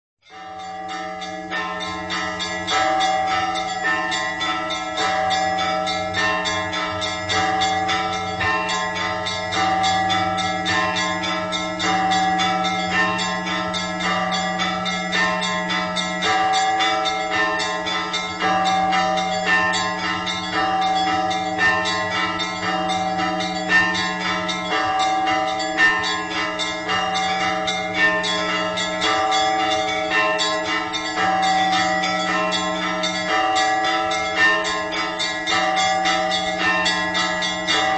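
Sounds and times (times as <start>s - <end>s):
deep bell tolling: 0.2s - 37.9s
small bells ringing rapidly: 0.2s - 37.9s.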